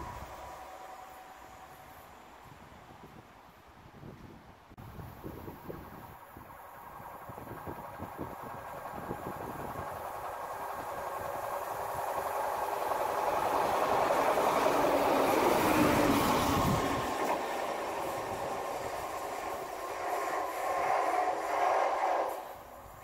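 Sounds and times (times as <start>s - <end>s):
diesel train passing at speed: 0.0s - 3.7s, 4.8s - 23.0s.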